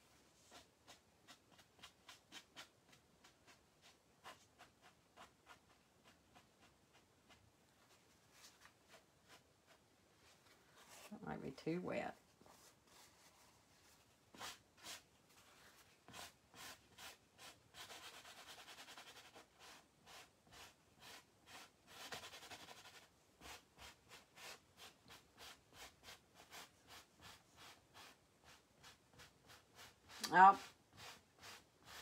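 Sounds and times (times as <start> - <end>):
paintbrush scrubbing on canvas: 0.2 - 11.2, 12.4 - 32.0.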